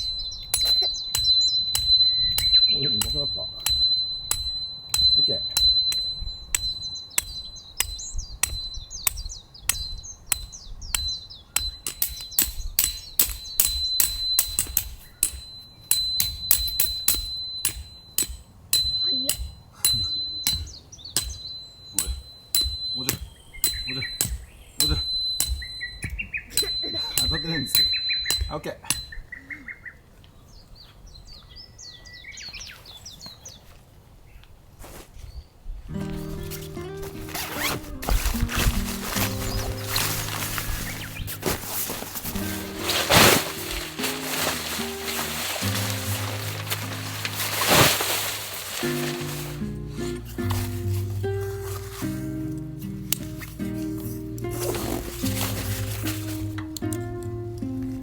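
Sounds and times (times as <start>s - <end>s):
hammer striking metal tent peg: 0.0s - 29.4s, 36.0s - 48.1s, 48.8s - 57.1s
songbird chirping: 0.0s - 34.6s, 35.2s - 58.0s
low outdoor background noise: 0.0s - 58.0s.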